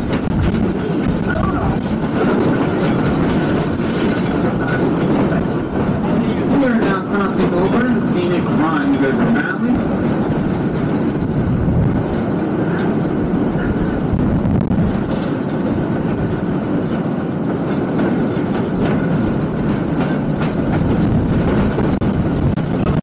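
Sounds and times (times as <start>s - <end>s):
train wheels running on rails: 0.0s - 23.0s.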